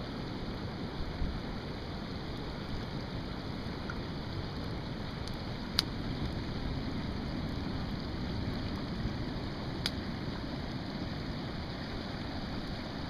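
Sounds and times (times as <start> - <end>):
campfire crackling faintly: 0.0 - 13.0
rushing water: 0.0 - 13.0
wind: 0.0 - 13.0.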